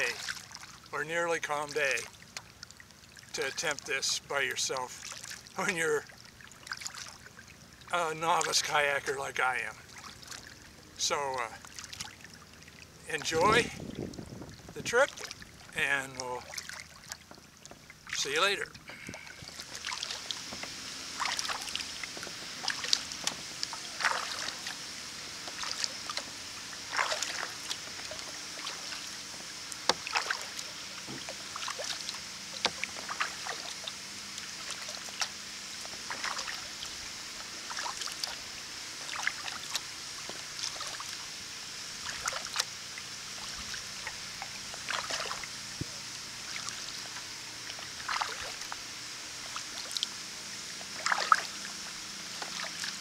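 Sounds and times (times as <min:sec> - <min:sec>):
steady high hiss: 0:00.0 - 0:06.4, 0:07.6 - 0:17.1, 0:17.8 - 0:53.0
kayak paddle splashing water: 0:00.0 - 0:53.0.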